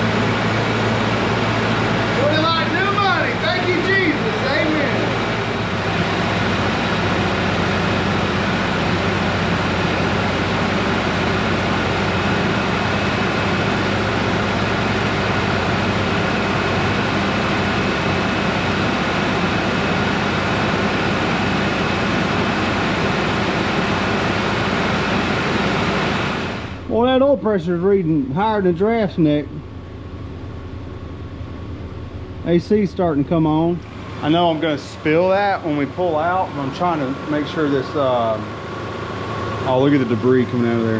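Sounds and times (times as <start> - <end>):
car engine fast idle: 0.0 - 27.0, 28.2 - 40.9.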